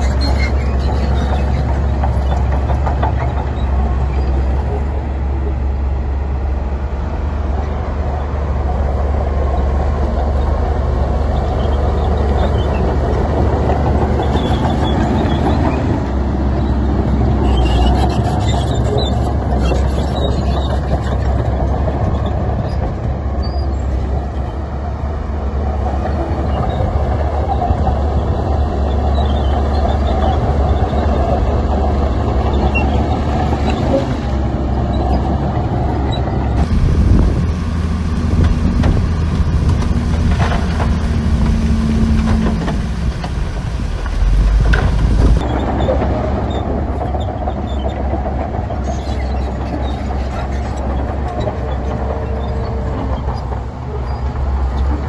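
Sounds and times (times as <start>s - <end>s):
diesel machinery rumbling: 0.0s - 55.0s.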